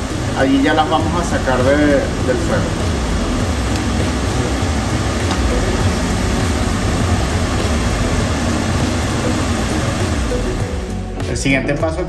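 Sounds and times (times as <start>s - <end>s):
low rumble: 0.0s - 11.0s
potatoes sizzling in oil: 0.0s - 11.2s.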